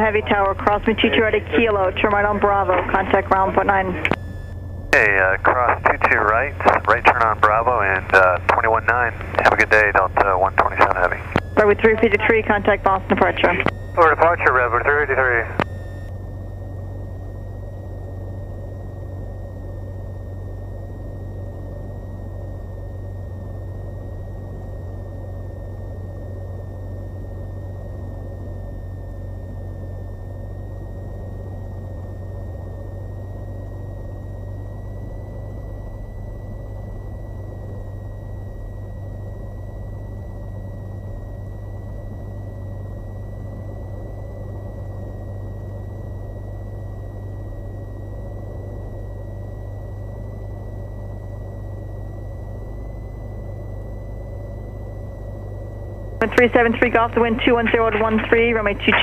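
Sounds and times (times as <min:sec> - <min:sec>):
faint high whine: 0:00.0 - 0:59.0
propeller aircraft engine drone: 0:00.0 - 0:59.0.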